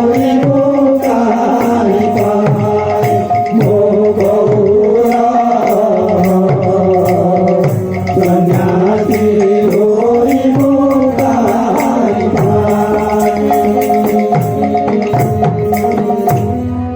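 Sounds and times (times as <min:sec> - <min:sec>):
sustained melody line: 0:00.0 - 0:16.9.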